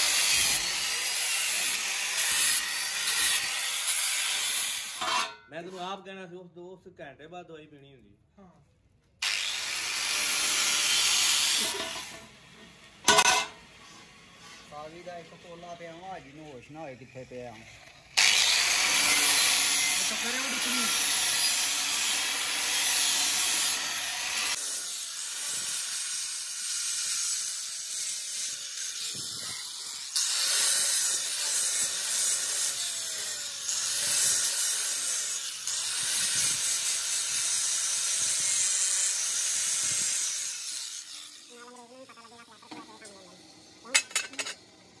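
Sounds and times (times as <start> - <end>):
angle grinder grinding steel: 0.0 - 5.5, 9.2 - 45.0.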